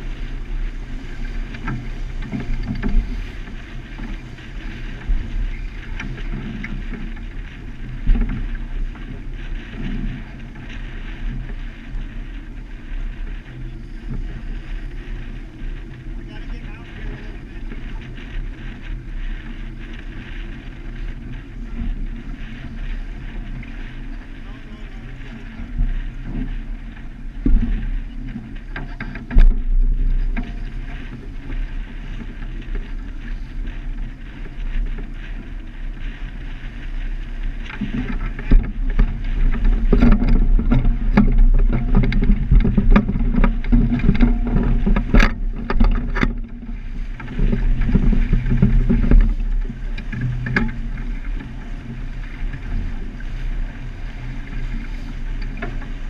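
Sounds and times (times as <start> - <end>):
water rushing along hull: 0.0 - 56.0
wind buffeting microphone: 0.0 - 56.0.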